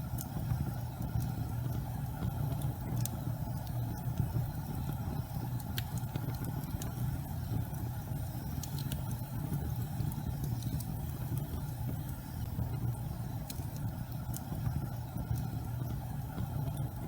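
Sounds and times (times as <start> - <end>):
faint crackles: 0.0 - 17.0
gas fireplace flame rumble: 0.0 - 17.0.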